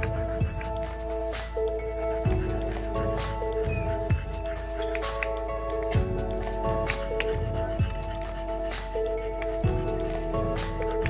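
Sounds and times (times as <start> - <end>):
music with held notes: 0.0 - 11.0.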